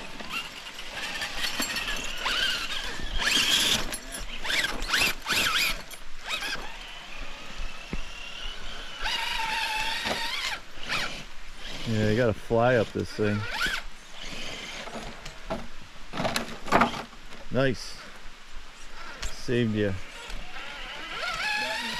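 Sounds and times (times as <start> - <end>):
electric motors and gears whining: 0.0 - 17.2, 19.4 - 21.9.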